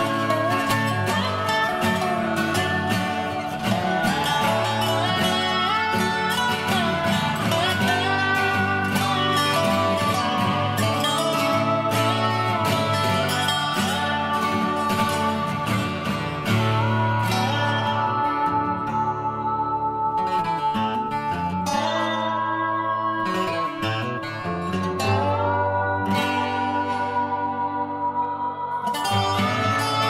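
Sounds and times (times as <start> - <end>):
plucked acoustic guitar music: 0.0 - 30.0.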